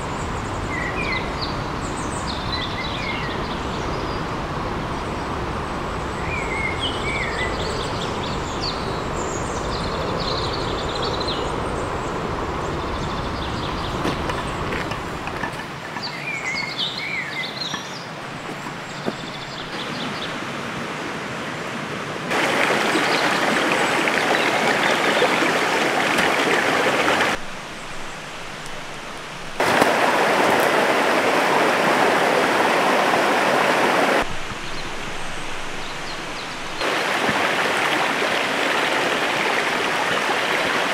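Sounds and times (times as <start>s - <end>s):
songbirds chirping: 0.0s - 40.9s
running water: 5.1s - 40.9s.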